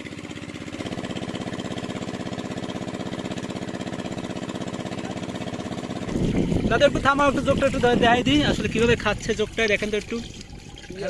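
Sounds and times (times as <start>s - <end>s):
small single-cylinder engine running: 0.0s - 11.0s.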